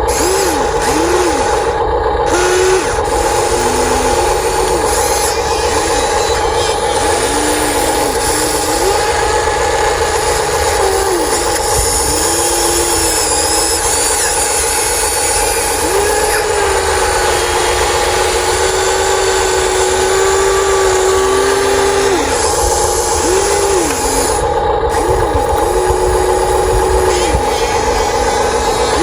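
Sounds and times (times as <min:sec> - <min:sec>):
electric gear motors whining: 0:00.0 - 0:29.0
steady hum: 0:00.0 - 0:29.0.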